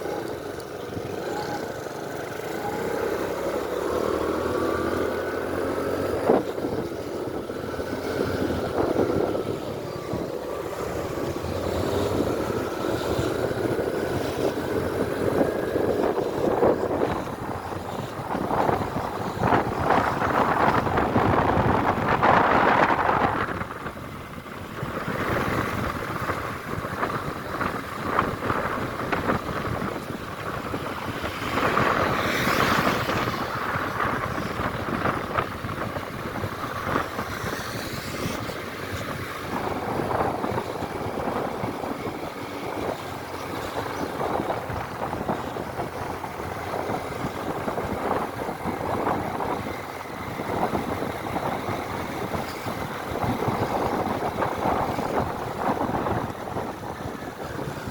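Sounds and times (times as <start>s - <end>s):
rumble of trucks and cars: 0.0s - 57.9s.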